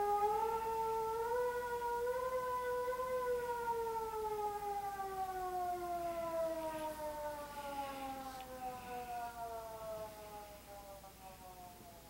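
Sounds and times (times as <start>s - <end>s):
warning siren long tone: 0.0s - 12.0s.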